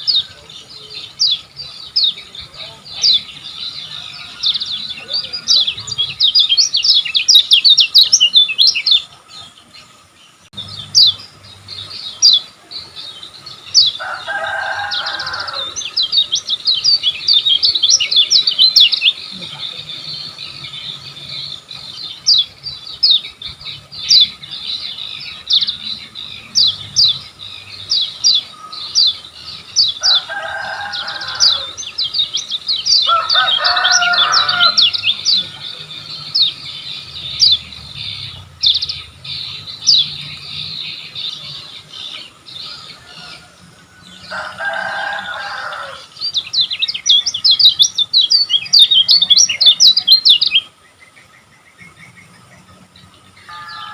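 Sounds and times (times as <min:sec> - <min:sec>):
harsh lower bird call: 0:00.0 - 0:52.3, 0:53.2 - 0:53.9
bird chattering song: 0:00.0 - 0:53.9.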